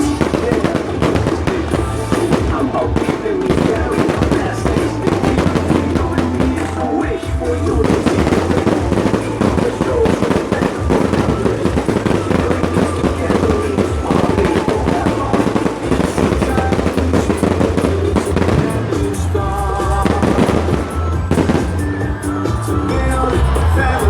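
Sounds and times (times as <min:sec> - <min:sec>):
fireworks crackling and banging: 0:00.0 - 0:24.0
loud music with bass: 0:00.0 - 0:24.0.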